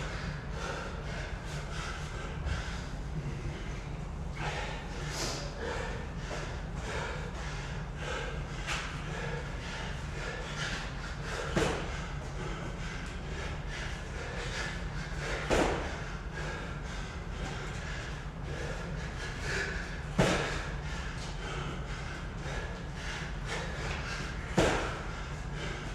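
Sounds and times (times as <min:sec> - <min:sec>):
hard breathing: 0:00.0 - 0:25.9
steady low hum: 0:00.0 - 0:25.9.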